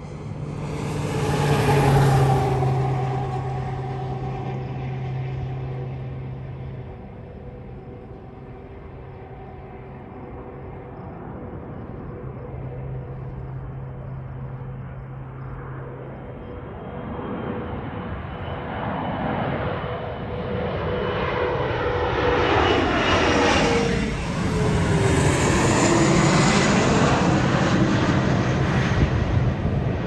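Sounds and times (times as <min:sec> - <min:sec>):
jet passing low overhead: 0:00.0 - 0:30.0.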